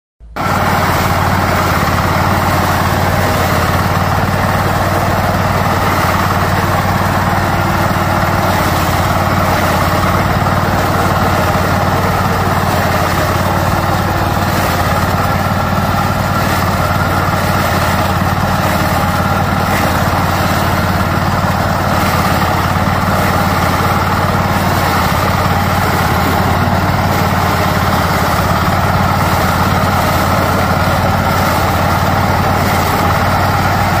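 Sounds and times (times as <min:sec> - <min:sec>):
small harvester engine droning: 0:00.2 - 0:34.0.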